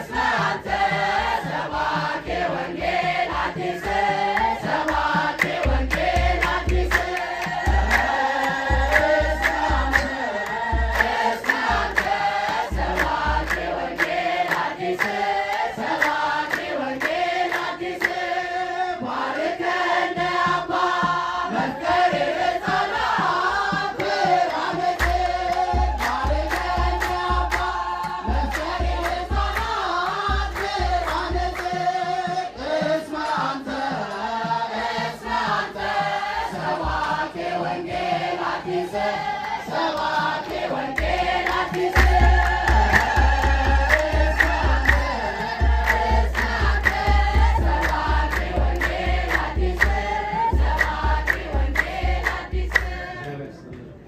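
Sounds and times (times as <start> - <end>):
rhythmic hand clapping: 0.0 - 53.4
congregation singing a hymn: 0.0 - 53.8.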